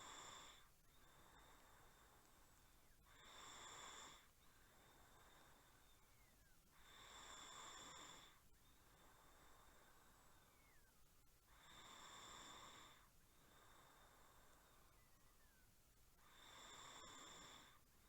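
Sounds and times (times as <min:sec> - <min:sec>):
faint snoring: 0:00.0 - 0:18.0
quiet breathing: 0:00.0 - 0:18.0.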